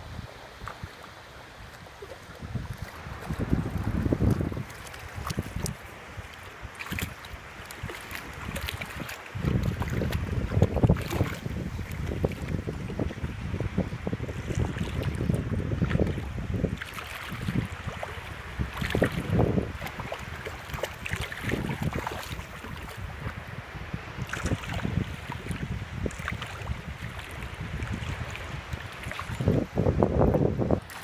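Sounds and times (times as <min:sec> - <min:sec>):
wind buffeting microphone: 0:01.6 - 0:31.0.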